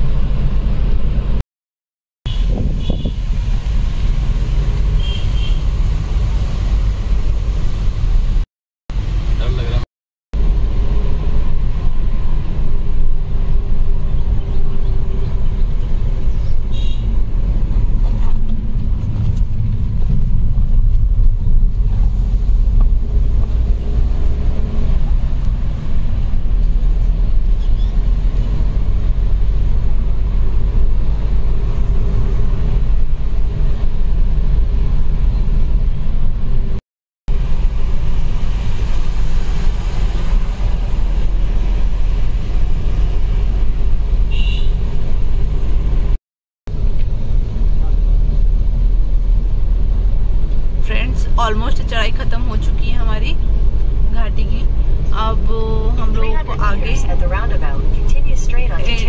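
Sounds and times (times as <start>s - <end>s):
car engine and tyres rumbling: 0.0s - 1.4s, 2.3s - 9.8s, 10.4s - 59.0s.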